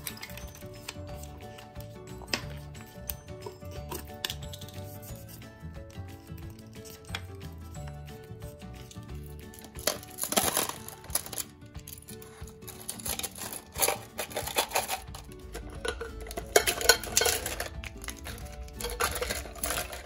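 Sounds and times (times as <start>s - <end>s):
plastic cutlery clattering: 0.0s - 5.3s, 6.1s - 8.0s, 8.8s - 20.0s
background music: 0.0s - 20.0s.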